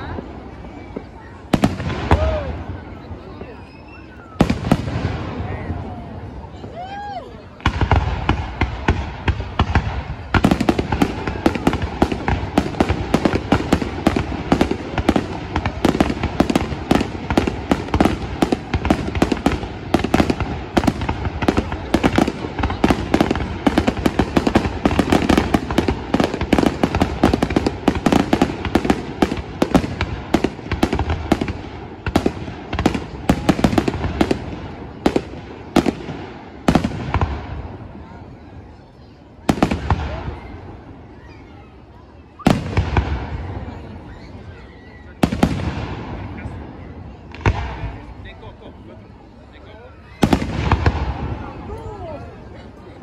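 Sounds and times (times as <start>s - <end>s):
fireworks bursting and crackling: 0.0s - 53.0s.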